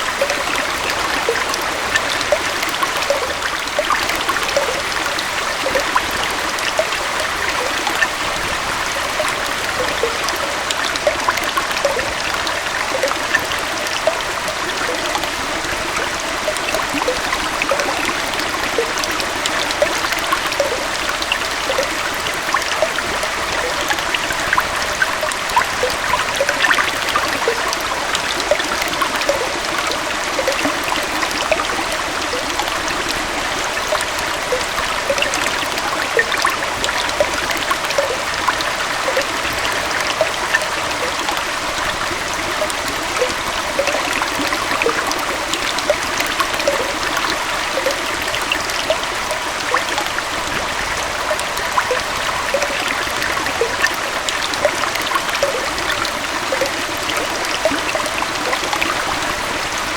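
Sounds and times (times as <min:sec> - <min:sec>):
water splashing and gurgling: 0:00.0 - 0:59.9.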